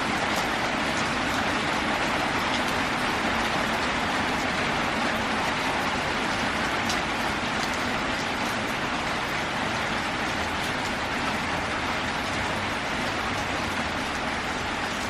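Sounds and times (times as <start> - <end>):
rain on a metal roof: 0.0 - 15.0.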